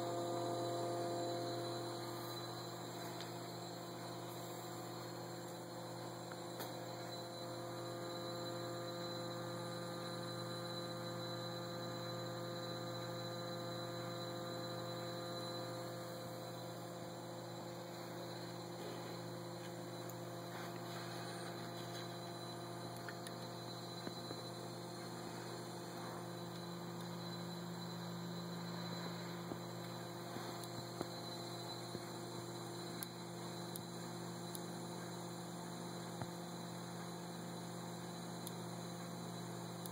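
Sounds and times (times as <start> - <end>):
charger electrical hum: 0.0 - 39.9.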